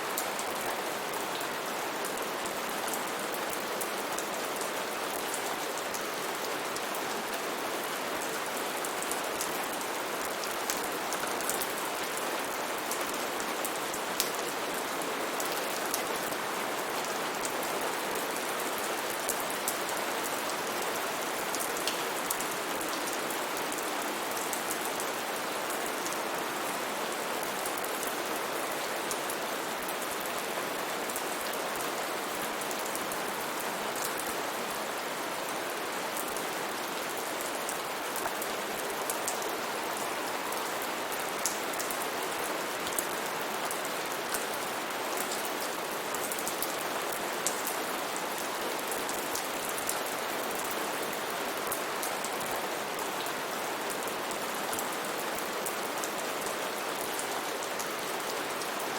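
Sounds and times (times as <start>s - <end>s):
steady rain falling: 0.0s - 58.9s
rain drops ticking on a surface: 0.1s - 58.9s.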